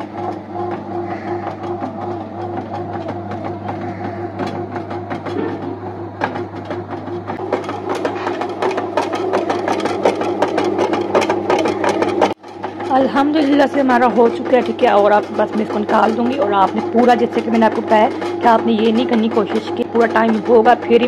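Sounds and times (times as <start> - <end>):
clattering clicks and knocks: 0.0 - 21.0
dough kneader motor humming: 0.0 - 21.0.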